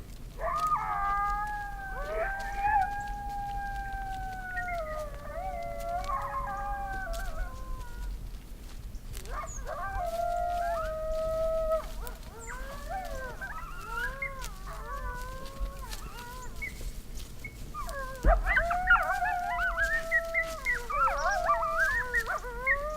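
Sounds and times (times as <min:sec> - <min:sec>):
coyotes howling and yipping: 0:00.0 - 0:22.9.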